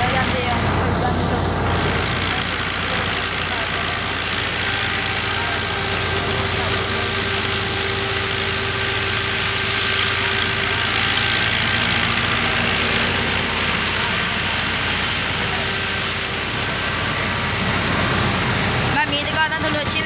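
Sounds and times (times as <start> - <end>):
threshing machinery rushing hiss: 0.0 - 20.0
tractor engine running: 0.0 - 20.0.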